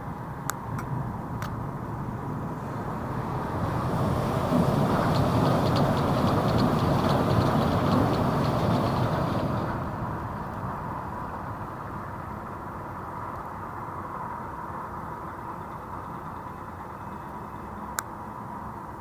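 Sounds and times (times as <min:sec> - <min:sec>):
monorail train passing overhead: 0:00.0 - 0:19.0
steady background noise: 0:00.0 - 0:19.0.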